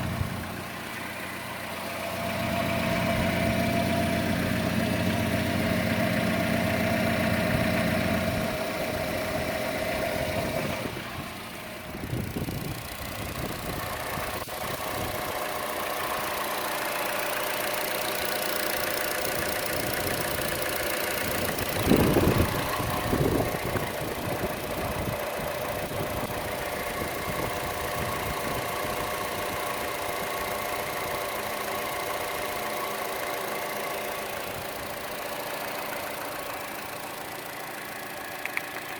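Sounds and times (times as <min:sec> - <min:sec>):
car engine idling with ticking: 0:00.0 - 0:38.9.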